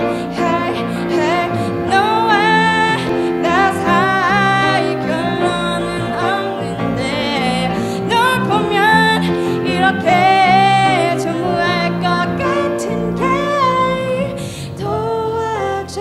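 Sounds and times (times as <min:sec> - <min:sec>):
guitar: 0:00.0 - 0:16.0
piano: 0:00.0 - 0:16.0
woman singing: 0:00.0 - 0:16.0.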